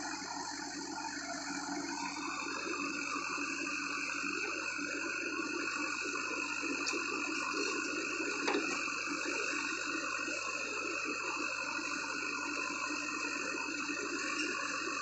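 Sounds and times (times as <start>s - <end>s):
diesel engine and hydraulics running: 0.0s - 15.0s.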